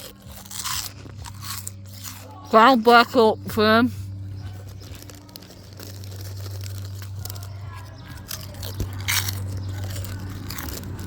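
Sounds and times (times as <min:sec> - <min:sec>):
crisps being crunched and chewed: 0:00.0 - 0:11.0
steady low hum: 0:00.9 - 0:11.0.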